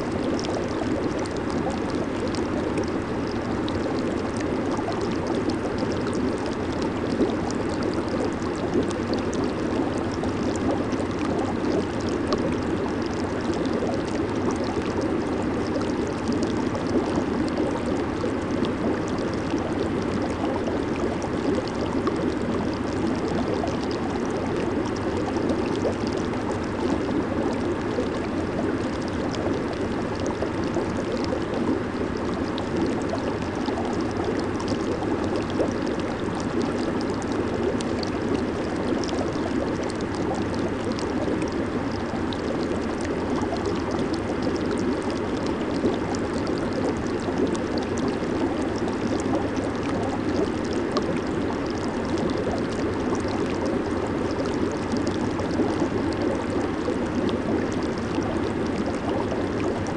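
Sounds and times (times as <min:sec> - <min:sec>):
hot tub jets bubbling: 0:00.0 - 0:59.9.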